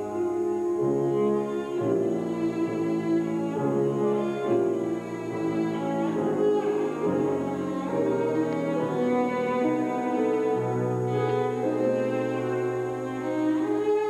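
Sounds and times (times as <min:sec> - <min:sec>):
cello bowing a melody: 0:00.0 - 0:14.0
grand piano accompaniment: 0:00.0 - 0:14.0.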